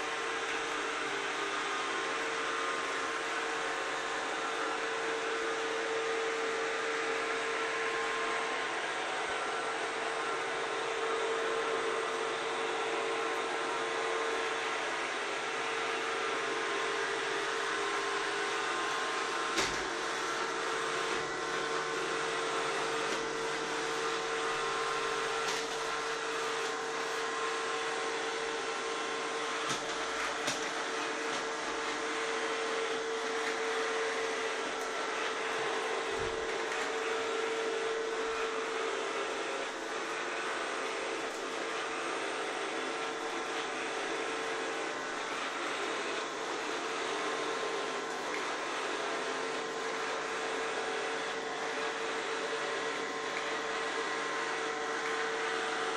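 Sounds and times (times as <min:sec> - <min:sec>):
robot vacuum cleaner whirring: 0:00.0 - 0:55.9.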